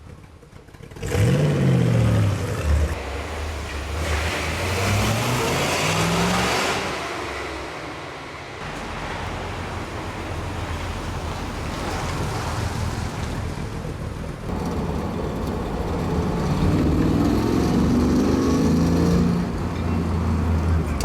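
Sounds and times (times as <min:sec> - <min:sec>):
car engine accelerating: 0:00.8 - 0:21.0.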